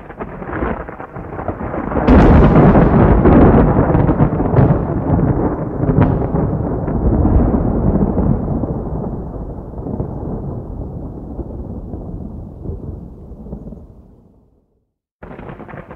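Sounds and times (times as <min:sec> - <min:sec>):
sharp thunder cracks: 0:00.0 - 0:14.4, 0:15.2 - 0:15.9
thunder rumbling: 0:00.0 - 0:14.6, 0:15.2 - 0:15.9.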